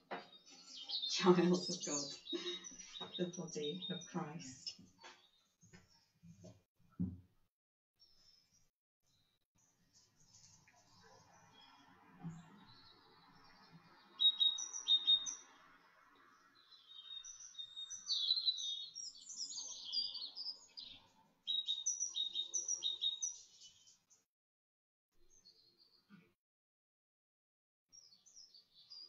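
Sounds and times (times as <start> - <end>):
songbird chirping and trilling: 0.0 - 6.1, 8.0 - 24.2, 27.9 - 29.0.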